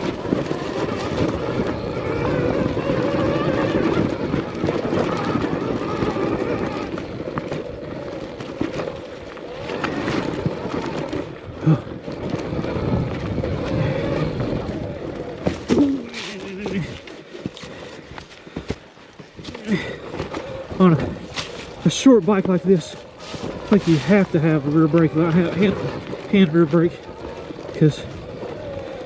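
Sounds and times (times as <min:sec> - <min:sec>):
electric motor whine: 0:00.0 - 0:18.0, 0:19.4 - 0:29.0
tyre noise on dirt: 0:00.0 - 0:29.0
wind rushing over microphone: 0:00.0 - 0:29.0.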